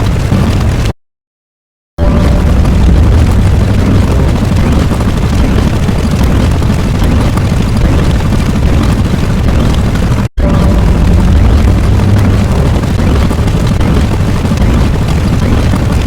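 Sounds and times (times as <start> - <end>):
explosion-like rumble: 0.0 - 1.0, 2.0 - 16.0.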